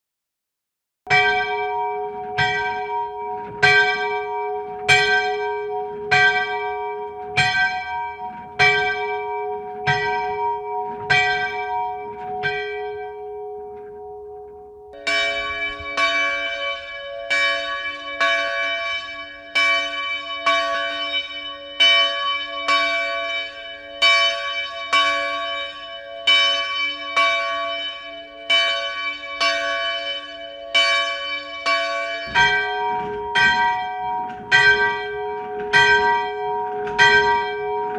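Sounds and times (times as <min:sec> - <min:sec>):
church bell tolling: 0:01.1 - 0:37.9.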